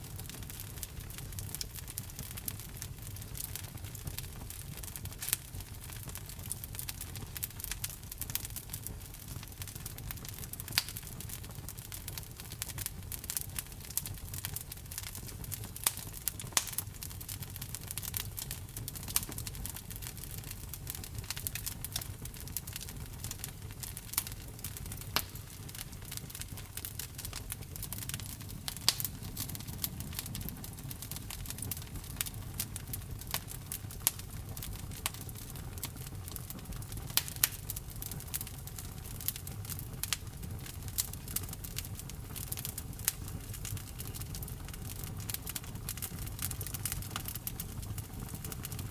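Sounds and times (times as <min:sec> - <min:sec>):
logs crackling and popping: 0:00.0 - 0:48.9
low rumble of flames: 0:00.0 - 0:48.9.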